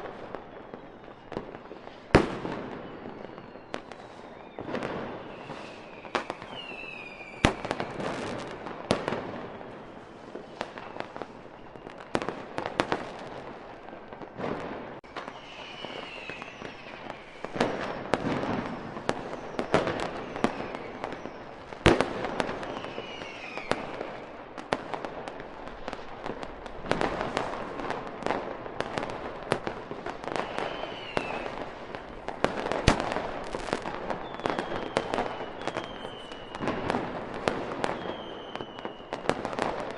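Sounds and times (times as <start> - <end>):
fireworks bangs and crackling: 0.0 - 39.9
fireworks whistles gliding in pitch: 0.0 - 39.9.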